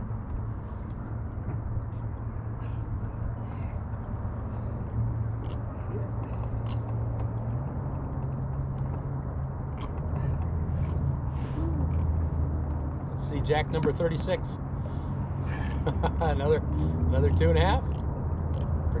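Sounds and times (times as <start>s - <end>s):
boat motor droning: 0.0s - 19.0s.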